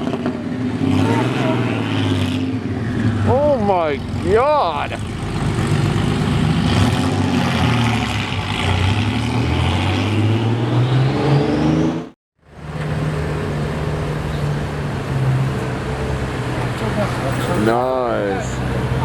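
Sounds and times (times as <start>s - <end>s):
car engine accelerating: 0.0s - 17.4s.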